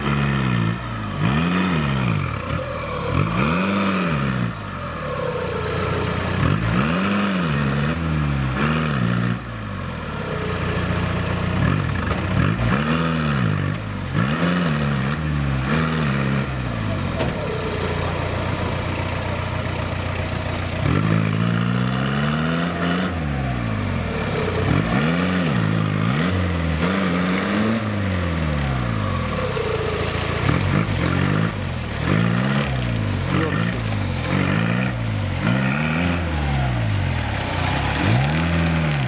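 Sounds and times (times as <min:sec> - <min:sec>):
diesel engine revving under load: 0:00.0 - 0:39.0.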